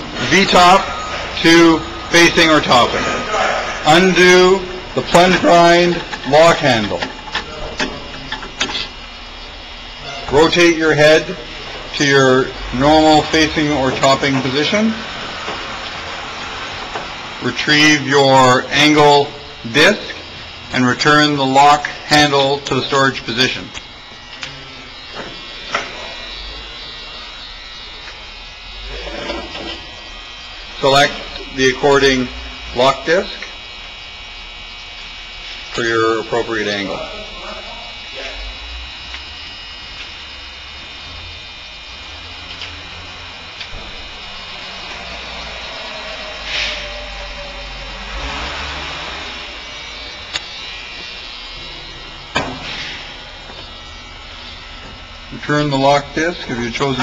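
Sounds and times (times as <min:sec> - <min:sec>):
grinder motor humming: 0:00.0 - 0:57.0
steady electric buzz: 0:00.0 - 0:57.0.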